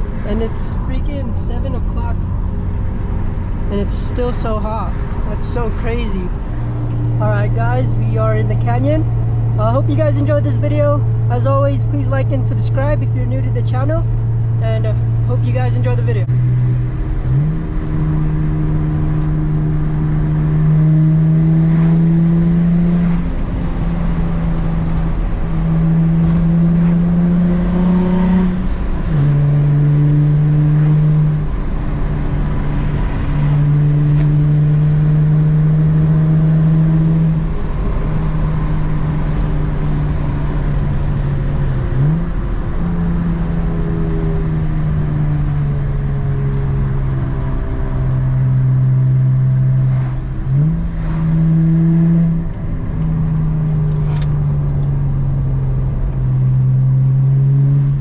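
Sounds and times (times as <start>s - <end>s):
car exhaust drone: 0.0s - 58.0s.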